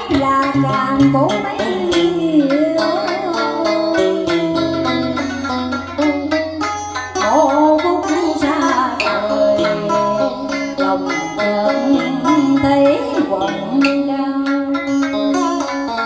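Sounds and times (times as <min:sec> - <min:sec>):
guitar plucking: 0:00.0 - 0:16.0
plucked string melody with bends: 0:00.0 - 0:16.0.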